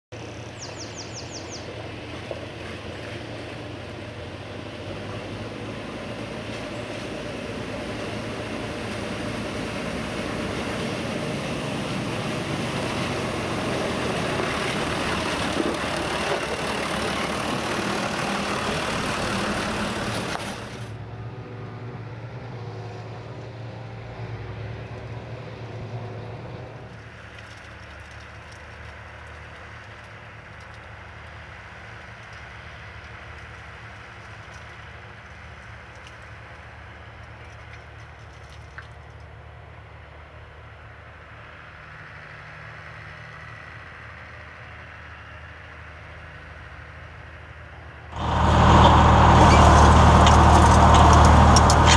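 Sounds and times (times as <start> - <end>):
tractor engine running: 0.1 - 21.0, 26.8 - 51.9.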